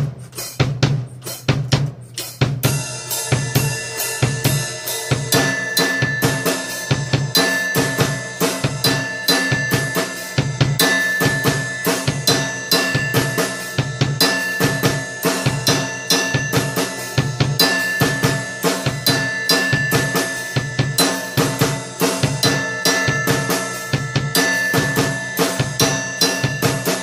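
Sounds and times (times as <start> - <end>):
cymbals ringing: 0.0 - 27.0.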